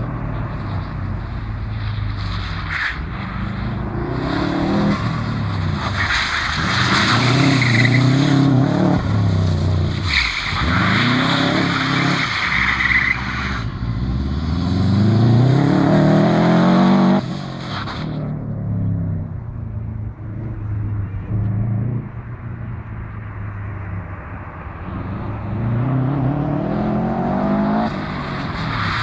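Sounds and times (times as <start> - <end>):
rally car engine revving: 0.0 - 23.1, 24.8 - 29.0
tyres skidding on asphalt: 0.0 - 29.0.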